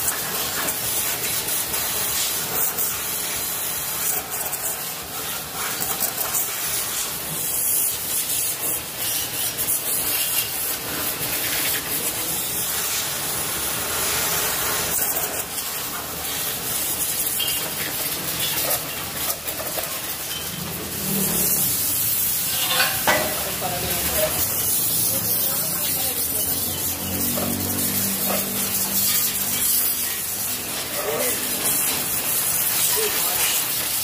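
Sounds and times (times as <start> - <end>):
continuous spraying hiss: 0.0 - 34.0.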